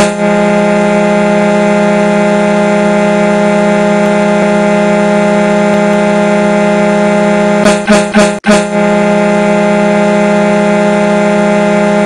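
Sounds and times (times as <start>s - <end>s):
hockey goal horn blast: 0.0s - 12.0s.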